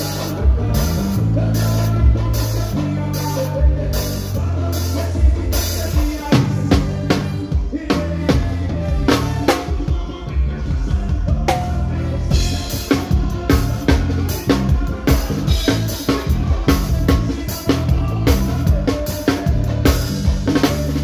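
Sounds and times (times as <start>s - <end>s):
bass line: 0.0s - 21.0s
drum kit kick and snare beat: 0.0s - 21.0s
live band playing: 0.0s - 21.0s.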